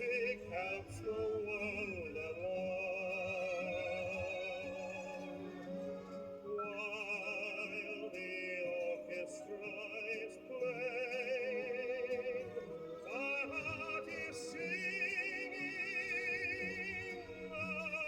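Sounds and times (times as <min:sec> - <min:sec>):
operatic singing on vinyl record: 0:00.0 - 0:18.0.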